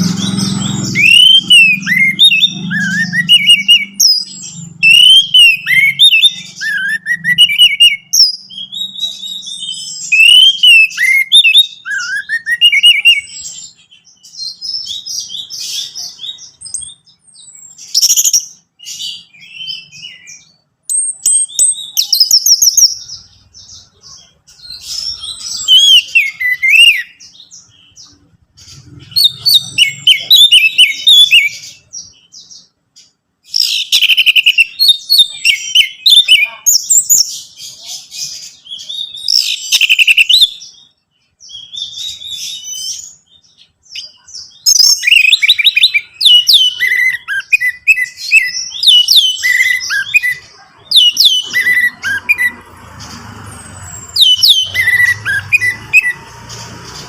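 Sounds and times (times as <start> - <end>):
thrush singing whistles and trills: 0.0 - 32.8, 33.4 - 57.0.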